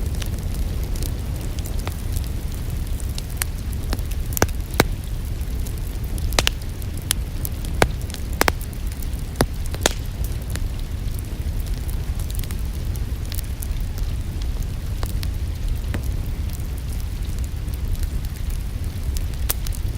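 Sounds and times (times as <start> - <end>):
rain hiss: 0.0 - 19.9
sharp fire pops: 0.0 - 19.9
wood fire crackling: 0.0 - 19.9.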